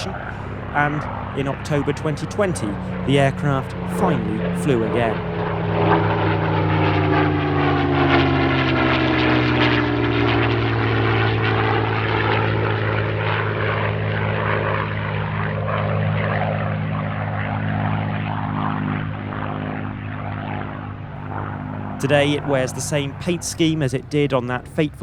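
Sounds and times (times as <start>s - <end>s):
aircraft engine droning: 0.0s - 25.0s.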